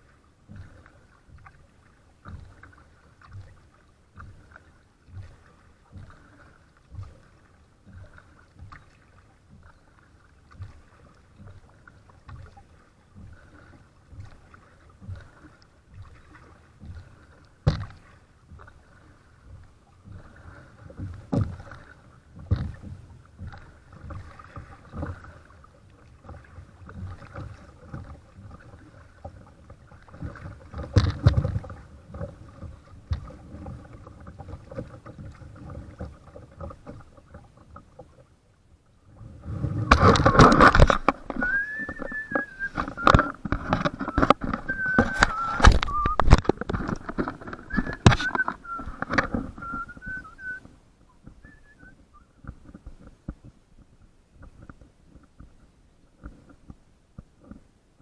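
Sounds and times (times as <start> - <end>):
paddle dipping in water: 0.0 - 58.0
water splashing against hull: 0.0 - 58.0.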